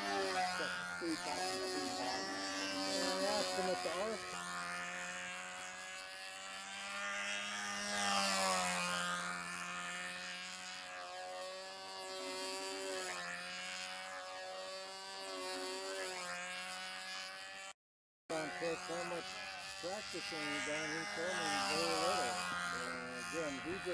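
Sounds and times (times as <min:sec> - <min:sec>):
model airplane engine buzzing: 0:00.0 - 0:23.9.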